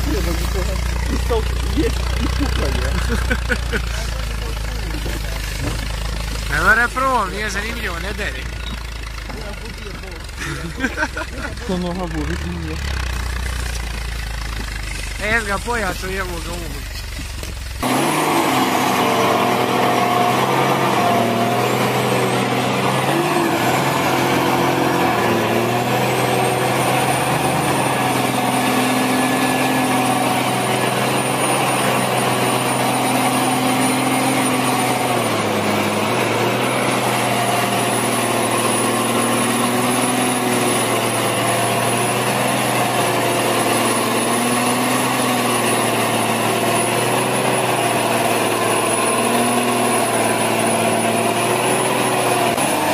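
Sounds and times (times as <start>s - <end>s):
heavy vehicle engine running: 0.0s - 52.9s.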